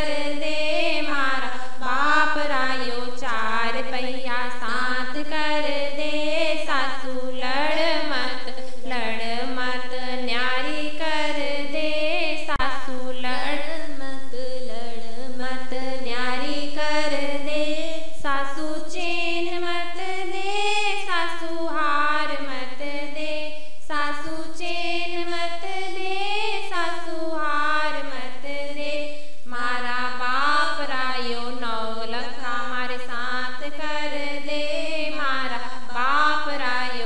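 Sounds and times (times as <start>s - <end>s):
woman singing unaccompanied: 0.0s - 37.0s.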